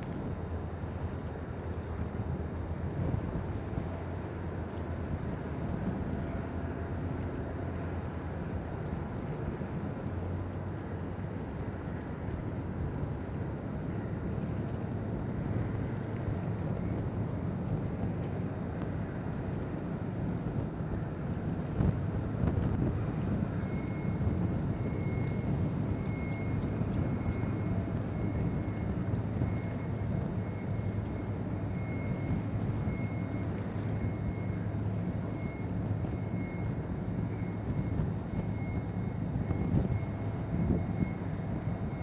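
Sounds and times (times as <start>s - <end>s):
boat engine rumbling: 0.0s - 42.0s
wind buffeting microphone: 0.0s - 42.0s.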